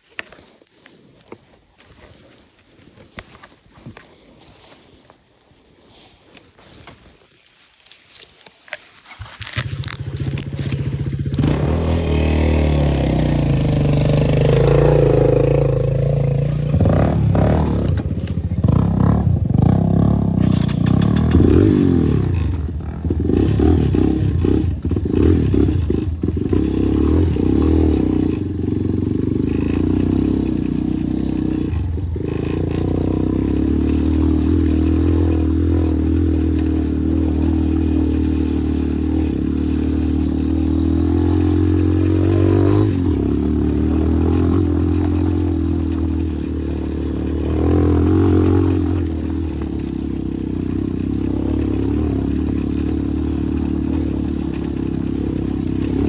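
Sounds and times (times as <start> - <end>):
motorcycle engine revving: 9.2 - 56.0.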